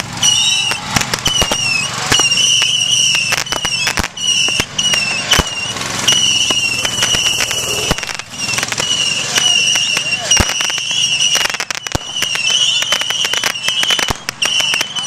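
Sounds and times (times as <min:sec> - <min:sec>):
fireworks popping and cracking: 0:00.0 - 0:15.0
high whistling tone: 0:00.2 - 0:15.0.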